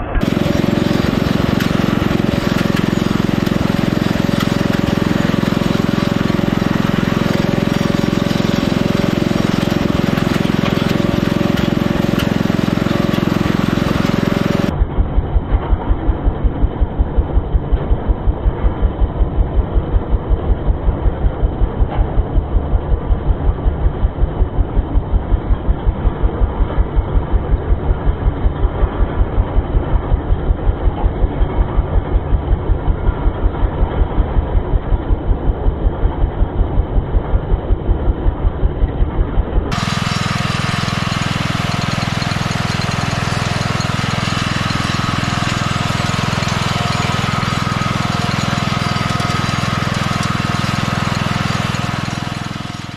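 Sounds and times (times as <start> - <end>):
mower engine running: 0.0 - 52.9.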